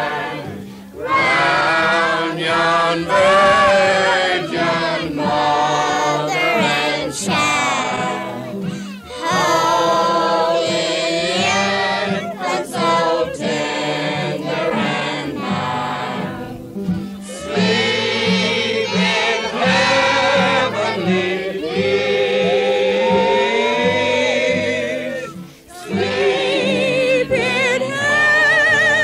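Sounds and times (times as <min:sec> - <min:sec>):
choir singing a hymn: 0:00.0 - 0:29.0.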